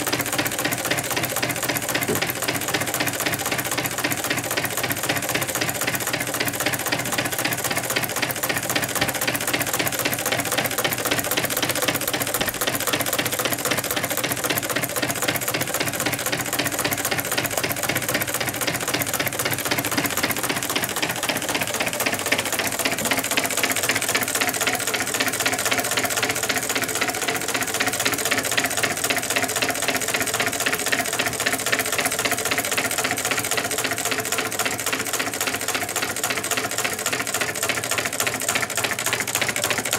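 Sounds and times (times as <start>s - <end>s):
stirling engine clattering clicks: 0.0s - 39.9s.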